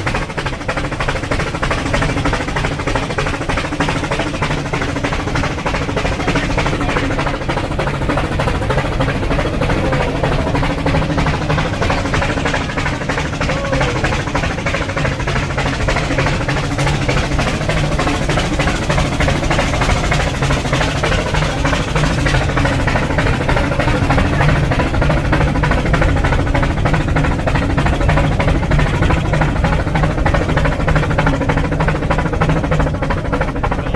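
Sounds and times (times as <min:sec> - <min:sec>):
steam locomotive puffing: 0:00.0 - 0:33.8.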